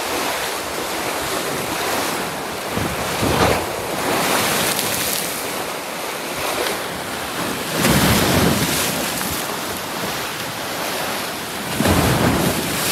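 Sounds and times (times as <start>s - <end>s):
sea waves breaking: 0.0s - 12.9s.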